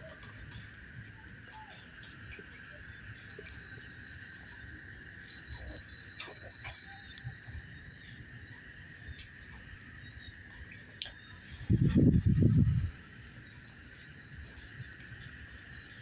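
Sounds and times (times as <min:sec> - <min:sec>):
cricket chirping trill: 0:00.0 - 0:16.0
insects chorus: 0:00.0 - 0:16.0.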